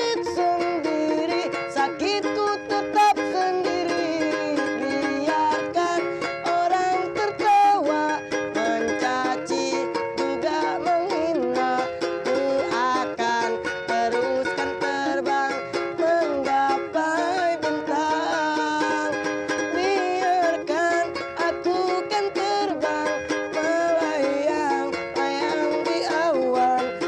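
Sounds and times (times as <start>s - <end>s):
man singing: 0.0s - 27.0s
ukulele strumming: 0.0s - 27.0s.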